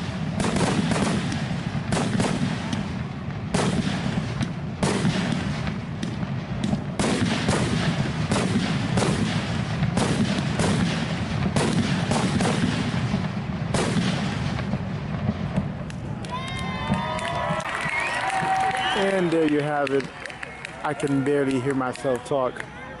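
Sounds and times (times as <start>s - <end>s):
fireworks crackle and rumble: 0.0s - 23.0s.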